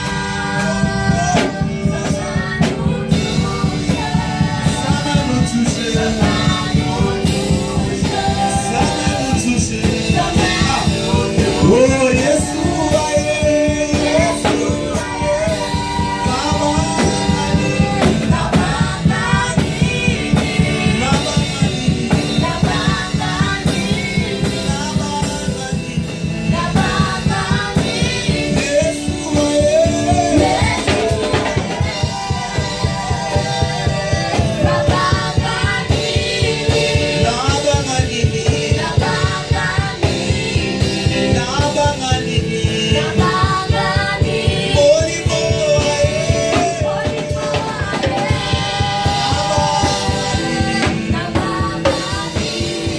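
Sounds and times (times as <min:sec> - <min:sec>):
band playing worship music: 0:00.0 - 0:52.9
fast steady drum beat: 0:00.0 - 0:52.9
singing: 0:00.0 - 0:52.9.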